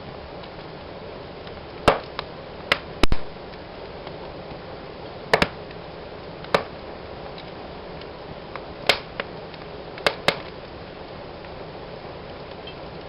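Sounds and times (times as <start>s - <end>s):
fire crackling: 0.0s - 13.0s
fire popping: 0.0s - 13.0s.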